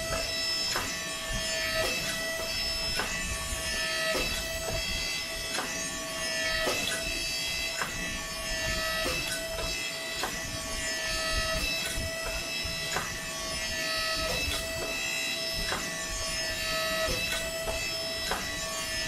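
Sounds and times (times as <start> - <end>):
hydraulic pump whine: 0.0 - 19.0.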